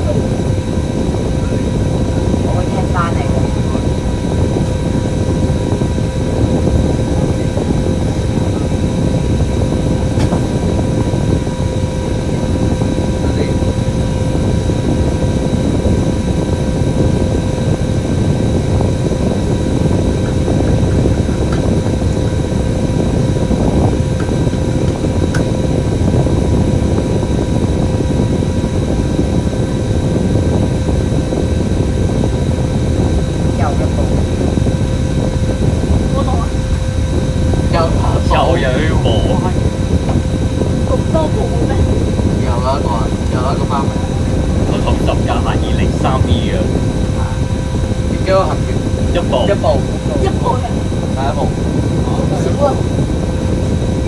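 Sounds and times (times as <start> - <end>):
bus engine and road rumble: 0.0 - 28.6, 29.2 - 54.0
faint steady whine: 0.0 - 54.0.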